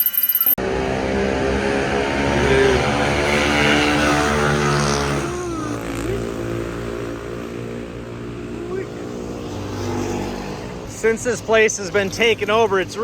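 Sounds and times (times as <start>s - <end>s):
road traffic engines: 0.6s - 13.0s.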